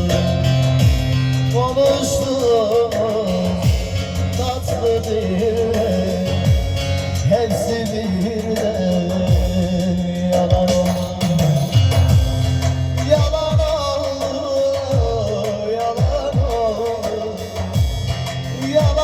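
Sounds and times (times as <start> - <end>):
ornamented melody with bass pulse: 0.0 - 19.0.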